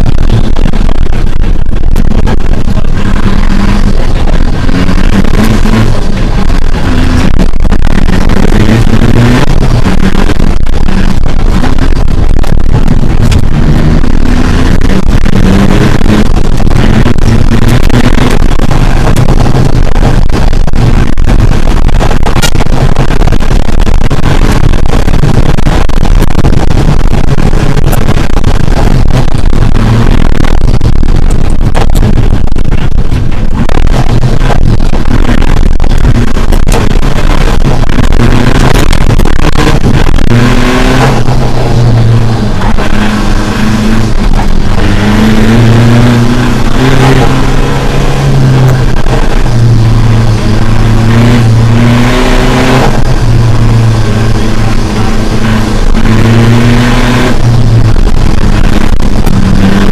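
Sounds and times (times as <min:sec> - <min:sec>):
car engine revving: 0:00.0 - 0:59.9
road and tyre noise: 0:00.0 - 0:59.9.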